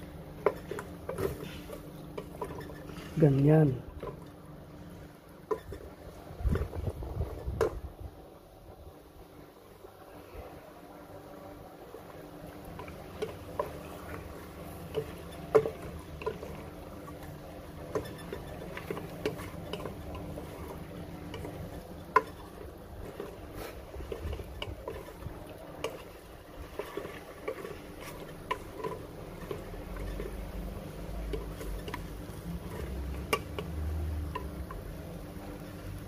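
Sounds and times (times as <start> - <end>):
chicken bubbling and crackling in pot: 0.0 - 3.1, 3.8 - 36.0.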